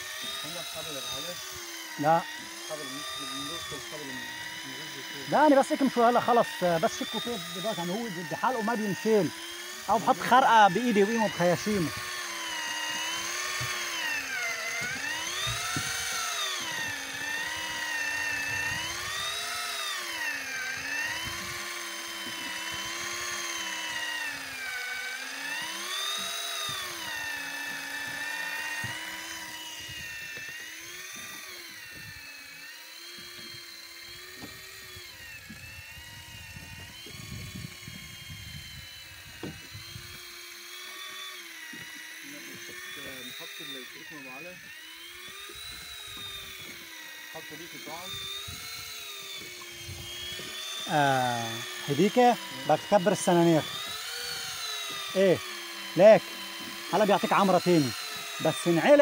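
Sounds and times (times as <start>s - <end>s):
electric fishing reel motor whining: 0.0s - 59.0s.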